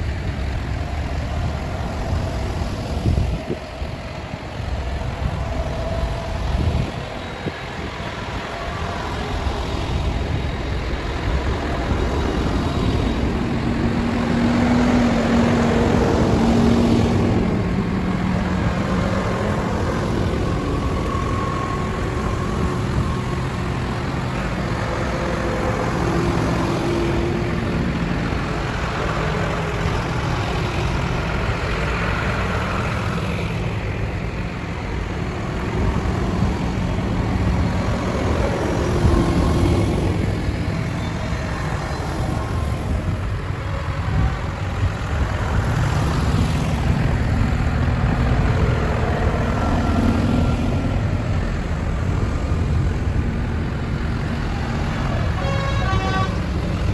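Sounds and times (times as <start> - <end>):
tractor engines running: 0.0 - 56.9.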